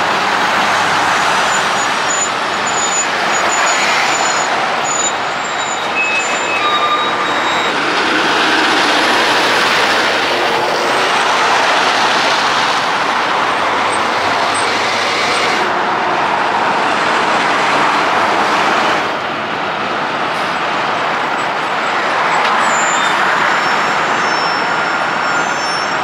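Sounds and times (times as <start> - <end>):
trucks passing in traffic: 0.0 - 26.0.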